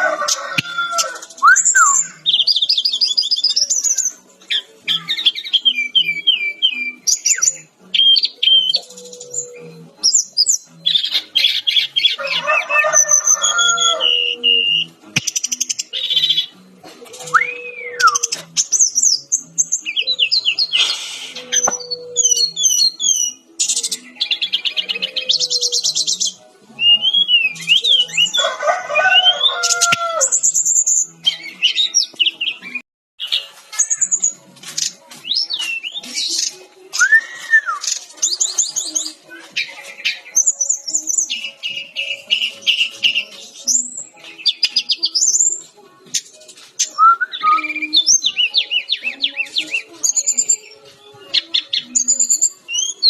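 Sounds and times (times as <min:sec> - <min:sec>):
flycatcher singing: 0:00.0 - 0:53.0.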